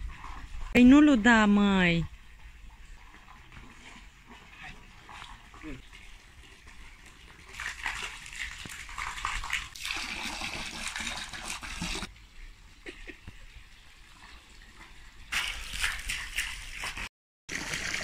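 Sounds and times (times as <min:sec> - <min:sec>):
hose water splashing into pool: 0:02.2 - 0:12.2, 0:12.8 - 0:18.0.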